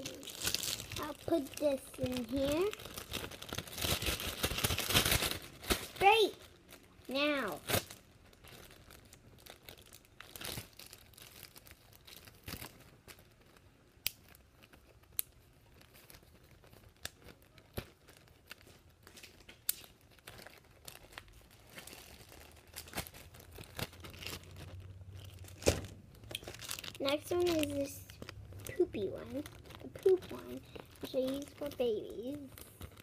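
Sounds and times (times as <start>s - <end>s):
slime squishing with sticky pops: 0.0s - 33.0s.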